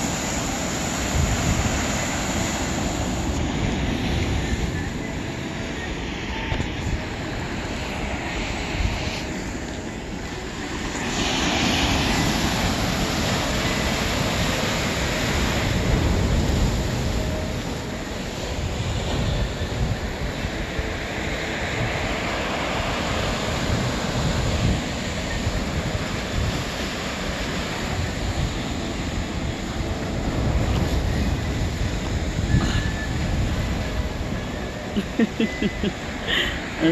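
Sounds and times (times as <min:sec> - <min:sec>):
ocean surf washing through boulders: 0:00.0 - 0:36.9
wind rumble on microphone: 0:00.0 - 0:36.9.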